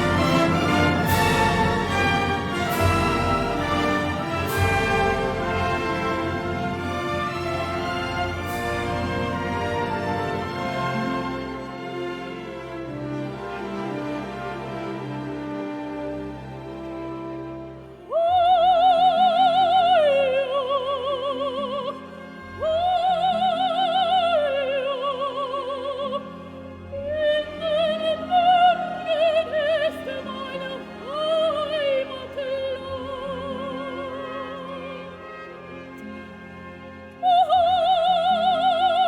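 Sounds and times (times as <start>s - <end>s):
operatic soprano singing: 0.0s - 11.9s, 18.0s - 39.0s
orchestra playing: 0.0s - 39.0s.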